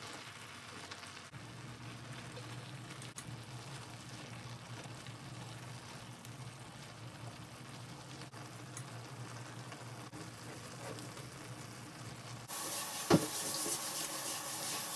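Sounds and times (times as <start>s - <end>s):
food sizzling in a pot: 0.0s - 14.9s.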